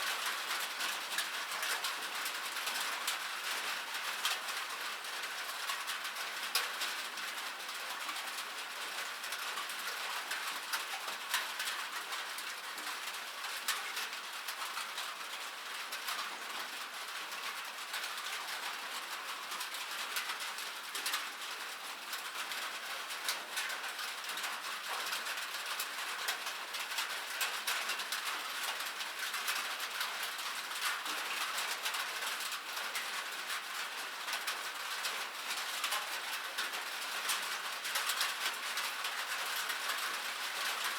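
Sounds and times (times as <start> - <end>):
rain on a metal surface: 0.0 - 40.9.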